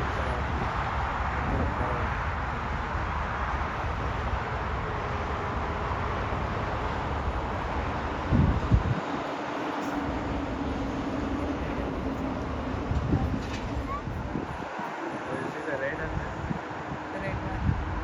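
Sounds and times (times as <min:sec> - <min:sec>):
jet airliner roar: 0:00.0 - 0:18.0.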